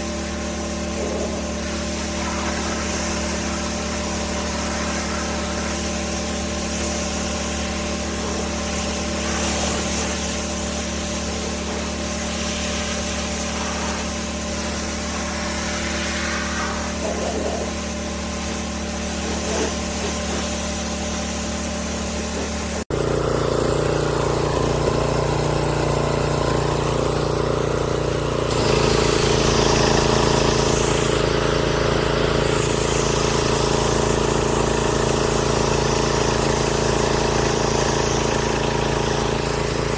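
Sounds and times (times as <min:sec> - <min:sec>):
pressure washer droning: 0:00.0 - 0:39.9.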